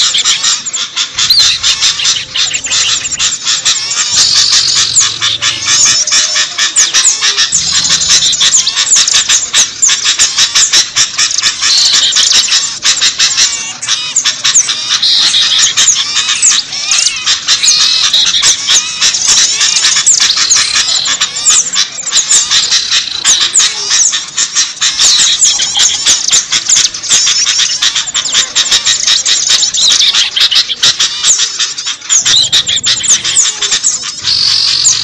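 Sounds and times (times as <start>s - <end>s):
small birds chirping and twittering: 0.0s - 35.0s.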